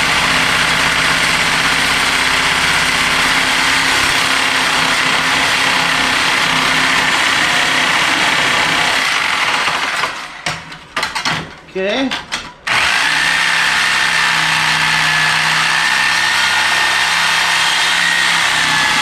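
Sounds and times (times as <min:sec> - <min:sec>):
reciprocating saw cutting metal pipe: 0:00.0 - 0:10.0, 0:12.7 - 0:19.0.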